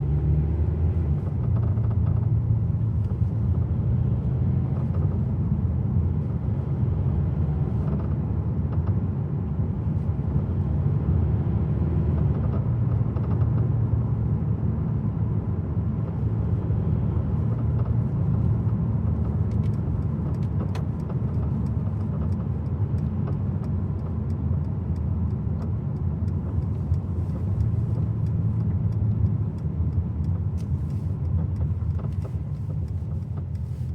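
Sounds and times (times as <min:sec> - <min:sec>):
car road rumble: 0:00.0 - 0:33.9.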